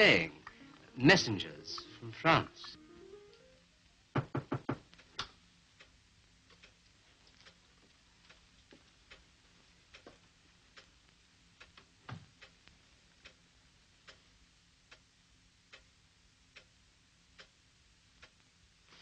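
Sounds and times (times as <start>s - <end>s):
clock ticking: 0.0s - 3.4s, 4.2s - 18.7s.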